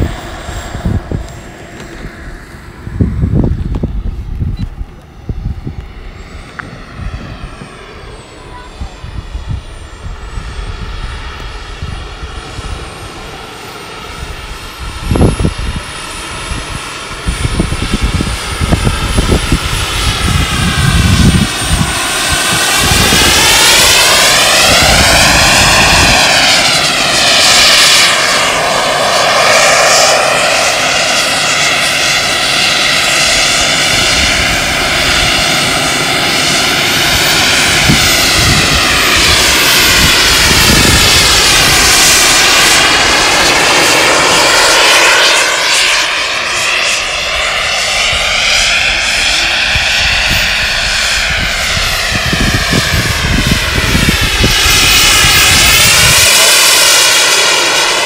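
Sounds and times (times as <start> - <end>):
jet turbine whine: 0.0 - 58.0.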